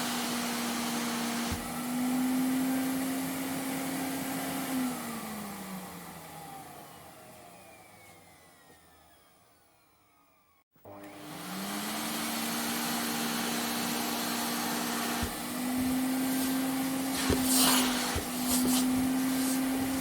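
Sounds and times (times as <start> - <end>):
vacuum cleaner motor running: 0.0 - 20.0
vacuum motor spinning down: 0.0 - 20.0.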